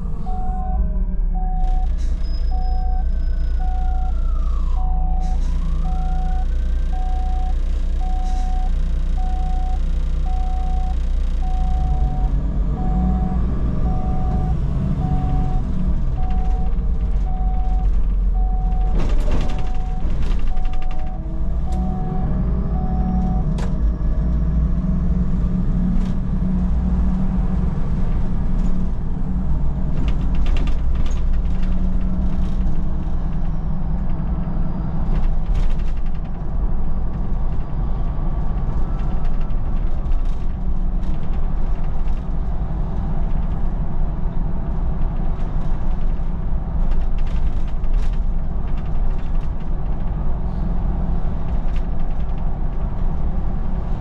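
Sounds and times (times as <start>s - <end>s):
bus engine droning: 0.0s - 54.0s
bus body creaking and rattling: 1.2s - 3.4s, 12.3s - 54.0s.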